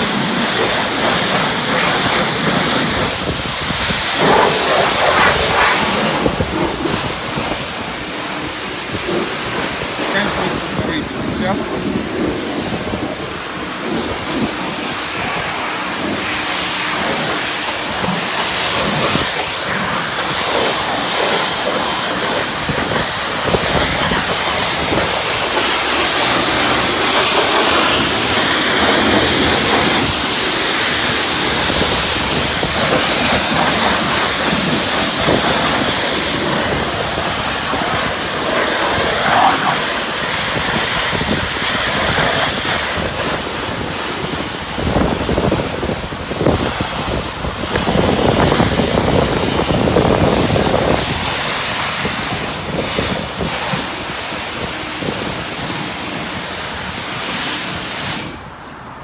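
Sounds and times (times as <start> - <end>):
pressure washer spraying car: 0.0 - 59.0.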